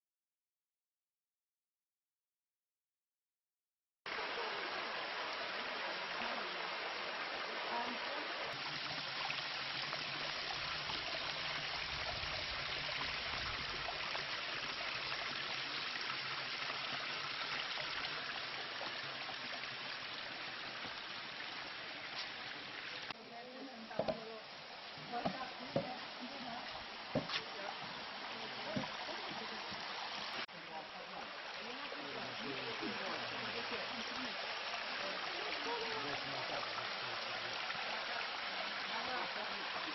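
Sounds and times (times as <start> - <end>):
water rushing over rocks: 4.1 - 39.9.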